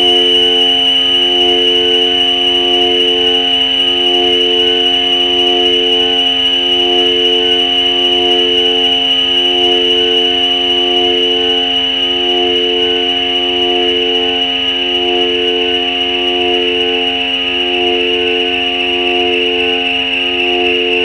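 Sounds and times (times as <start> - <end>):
ambient synthesizer drone music: 0.0 - 21.0.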